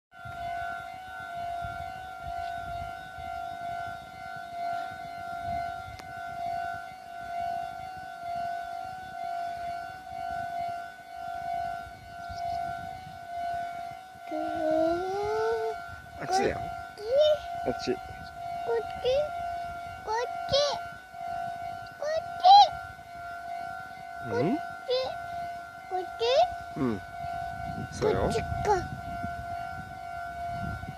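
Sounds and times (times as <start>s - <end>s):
level crossing warning bell: 0.1s - 30.9s.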